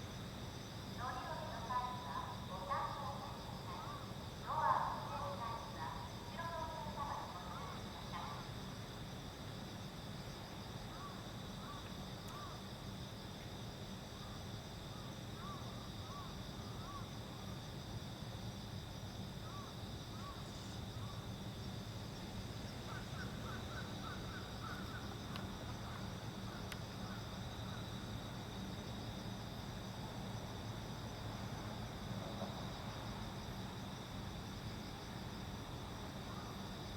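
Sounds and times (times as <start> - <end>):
night insects chirring: 0.0 - 36.9.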